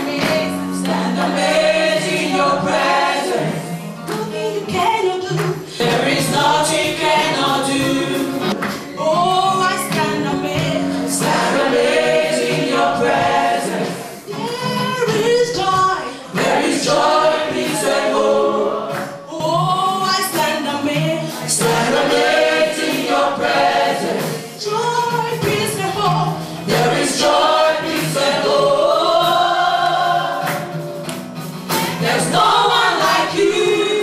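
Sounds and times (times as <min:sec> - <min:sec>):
backing music: 0:00.0 - 0:34.0
choir singing gospel song: 0:00.0 - 0:34.0.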